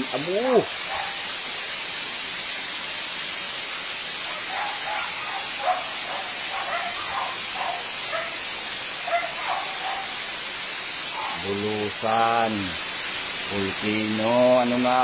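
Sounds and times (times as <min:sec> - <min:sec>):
hiss of ash and rain falling: 0:00.0 - 0:15.0.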